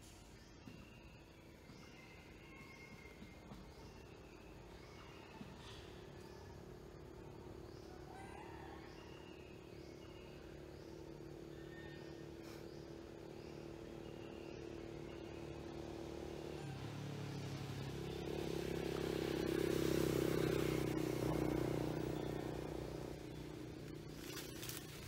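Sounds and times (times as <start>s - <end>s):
vehicle engine humming past: 1.6s - 25.0s.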